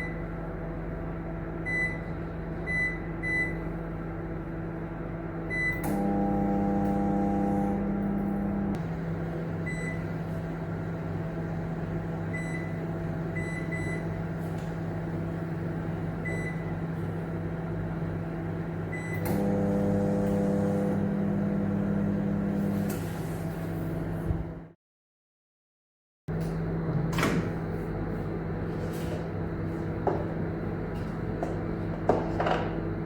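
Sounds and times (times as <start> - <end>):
microwave oven humming: 0.0 - 24.8, 26.3 - 33.0.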